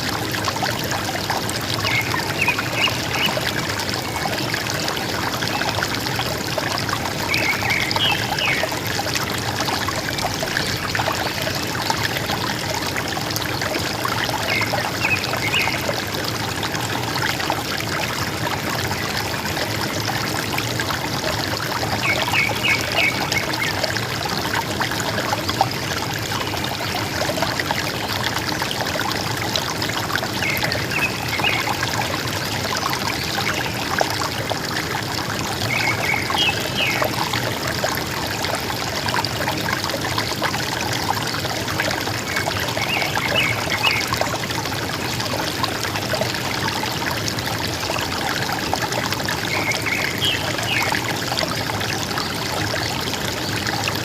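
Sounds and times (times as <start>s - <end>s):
river water gurgling: 0.0s - 54.0s.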